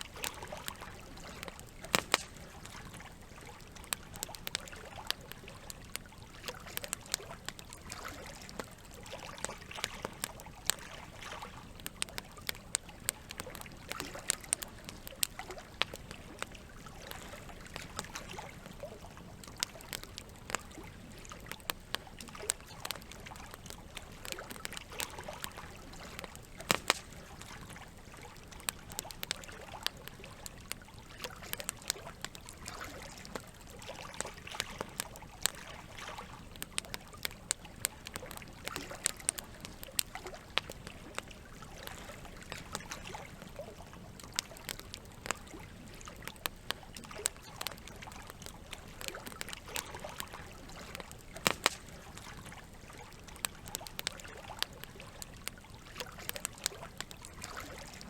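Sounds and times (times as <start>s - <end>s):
running water trickling: 0.0s - 58.0s
wood fire crackling and popping: 0.0s - 58.0s.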